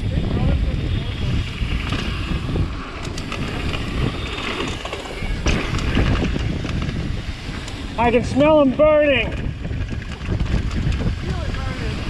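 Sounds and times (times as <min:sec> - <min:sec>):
bike rattling: 0:00.0 - 0:12.0
tyres rumbling on dirt: 0:00.0 - 0:12.0
wind buffeting microphone: 0:00.0 - 0:12.0.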